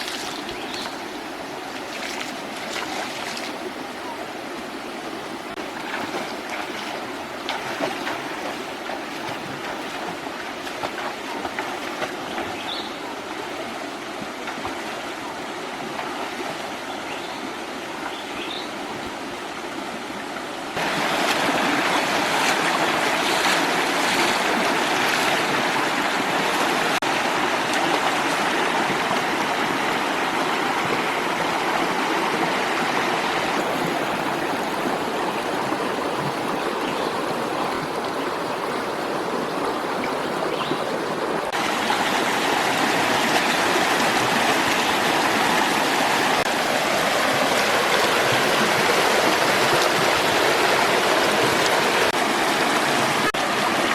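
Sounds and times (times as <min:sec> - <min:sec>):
stream water flowing: 0:00.0 - 0:53.9.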